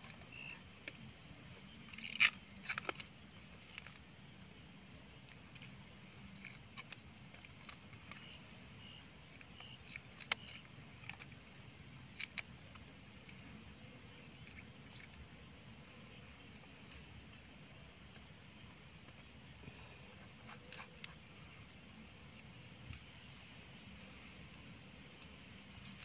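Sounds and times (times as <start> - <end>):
faint insects trilling: 0.0 - 26.0.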